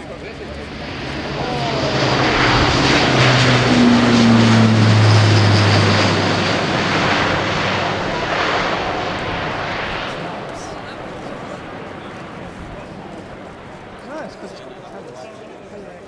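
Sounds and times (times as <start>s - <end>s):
turboprop aircraft droning: 0.0s - 15.1s.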